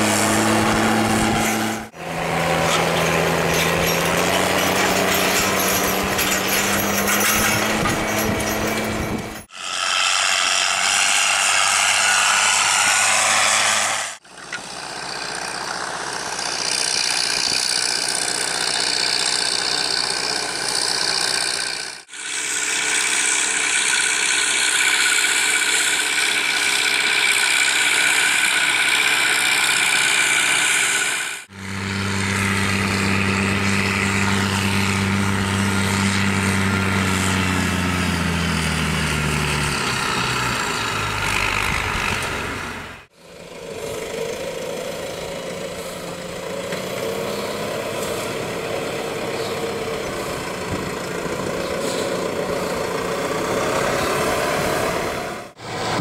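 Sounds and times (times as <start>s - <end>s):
diesel tractor engine: 0.0s - 56.0s.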